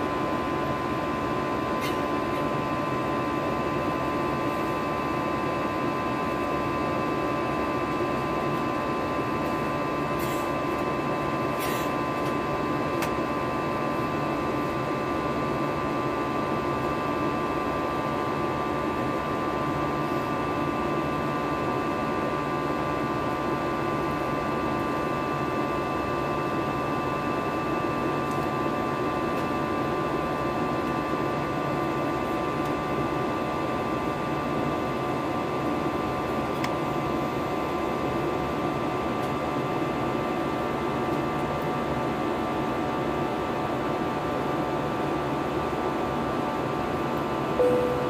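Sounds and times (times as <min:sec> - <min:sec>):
airplane cabin engine noise: 0:00.0 - 0:48.0.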